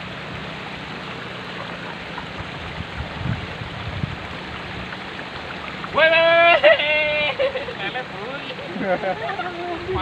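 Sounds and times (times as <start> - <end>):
water rushing along ditch: 0.0 - 10.0.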